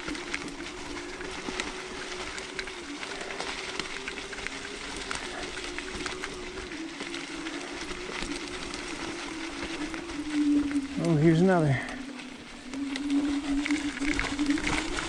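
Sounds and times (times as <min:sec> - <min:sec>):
electric motor whine: 0:00.0 - 0:15.0
small ticks and rattles: 0:00.0 - 0:15.0
tyres crackling over dry leaves: 0:00.0 - 0:15.0.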